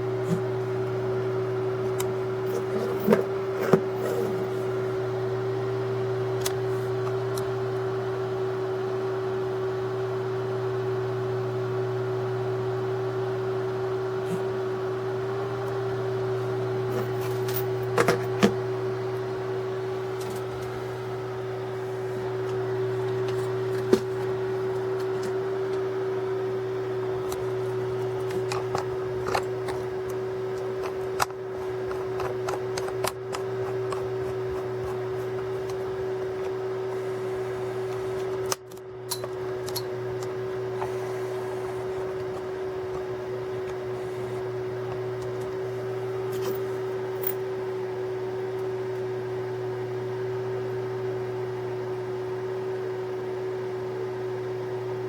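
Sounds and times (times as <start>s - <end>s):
mid-pitched hum: 0.0s - 55.0s.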